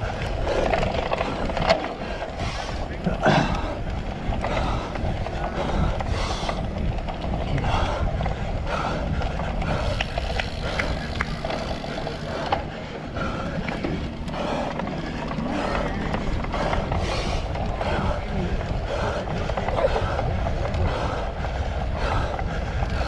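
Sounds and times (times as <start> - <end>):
bike chain and frame rattling: 0.0 - 23.0
wind on the microphone: 0.0 - 23.0.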